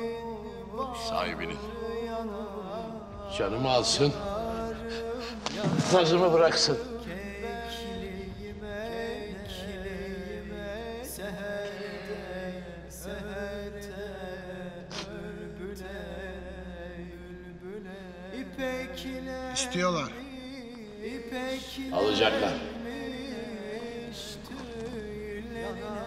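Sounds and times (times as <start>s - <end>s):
chant-like melody: 0.0s - 26.0s.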